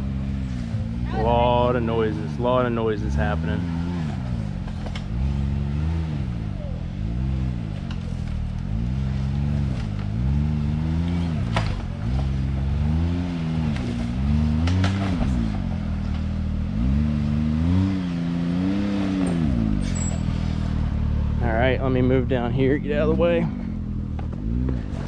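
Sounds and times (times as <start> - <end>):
utility vehicle engine revving: 0.0 - 25.0.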